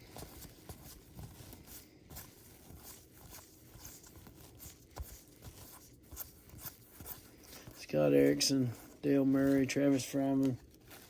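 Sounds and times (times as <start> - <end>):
cards rustling and clicking: 0.0 - 11.0.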